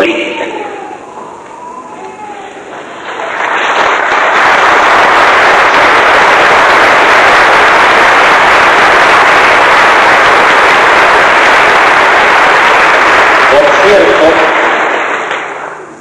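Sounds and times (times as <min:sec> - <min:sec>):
audience applauding: 0:02.6 - 0:15.9.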